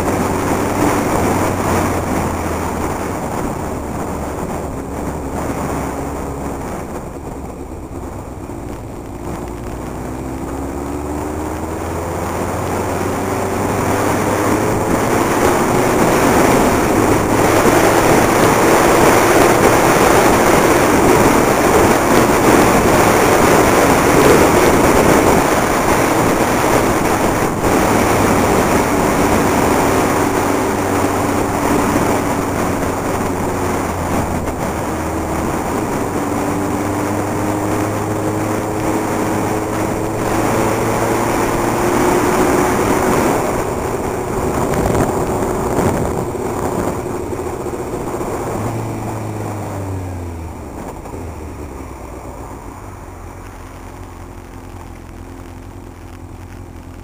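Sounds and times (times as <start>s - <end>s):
motorcycle engine accelerating: 0.0s - 57.0s
wind and road noise rushing: 0.0s - 57.0s.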